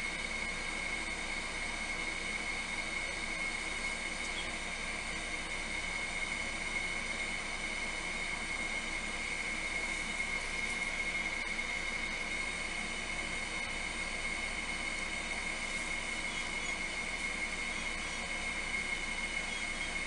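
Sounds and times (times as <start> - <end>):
electric fan motor whirring: 0.0 - 20.0.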